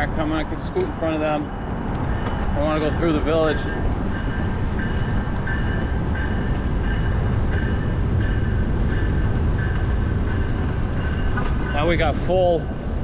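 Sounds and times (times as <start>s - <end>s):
bicycle road rumble: 0.0s - 13.0s.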